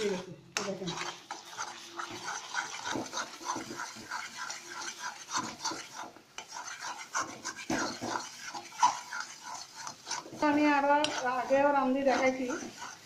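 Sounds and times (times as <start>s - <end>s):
spatula scraping metal pan: 0.0s - 13.0s.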